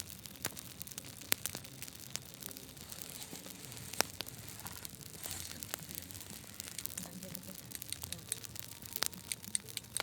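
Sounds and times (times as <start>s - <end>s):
faint sharp clicks and crackles: 0.0s - 10.0s.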